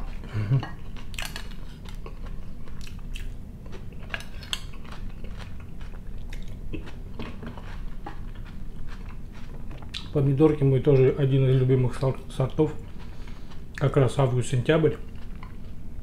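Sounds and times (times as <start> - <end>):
person chewing: 0.0 - 11.0, 12.1 - 13.9, 15.0 - 16.0.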